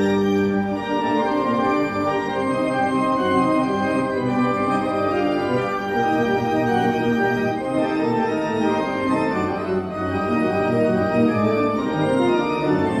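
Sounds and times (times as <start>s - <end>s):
church organ playing chords: 0.0s - 13.0s.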